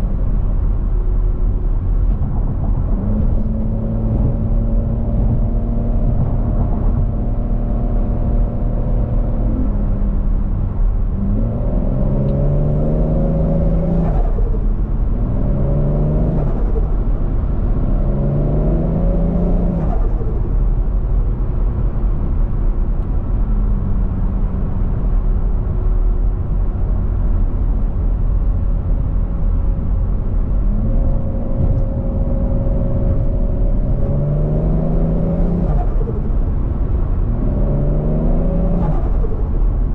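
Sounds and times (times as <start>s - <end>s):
car engine accelerating through gears: 1.9s - 20.6s, 26.5s - 39.9s.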